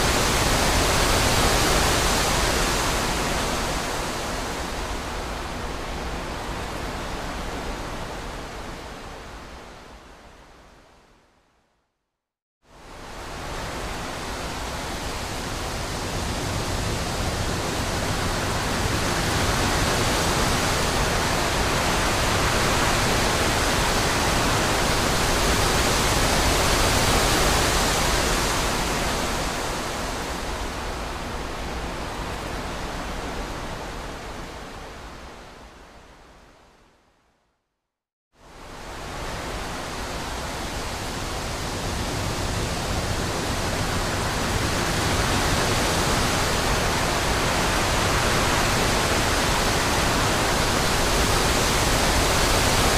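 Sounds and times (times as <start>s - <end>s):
wind rushing through trees: 0.0s - 11.7s, 12.6s - 37.4s, 38.4s - 52.9s.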